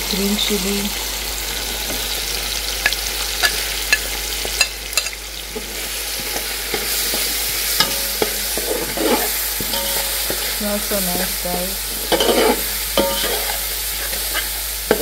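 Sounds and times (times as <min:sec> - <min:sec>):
masala sizzling in oil: 0:00.0 - 0:15.0.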